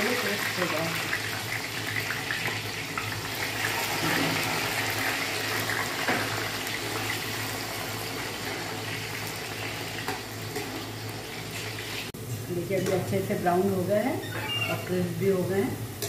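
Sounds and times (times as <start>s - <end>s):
oil sizzling: 0.0s - 13.9s.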